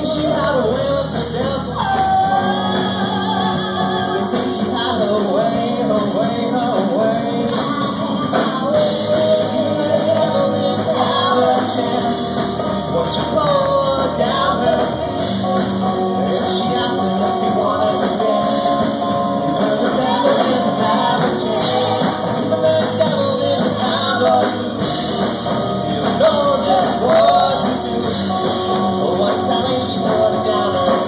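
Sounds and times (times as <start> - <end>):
bass guitar: 0.0 - 31.0
drum kit: 0.0 - 31.0
electric guitar: 0.0 - 31.0
vocalist singing: 0.0 - 31.0.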